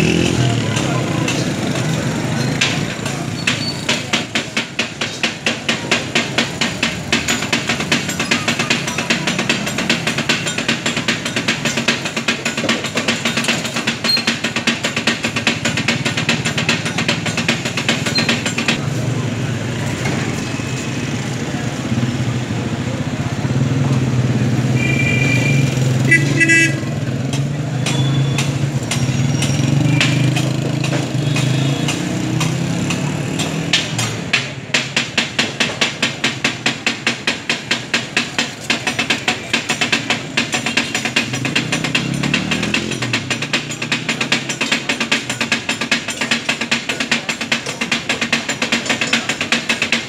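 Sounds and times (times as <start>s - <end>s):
metal spatulas clanking on griddle: 0.7s - 18.8s, 27.3s - 50.0s.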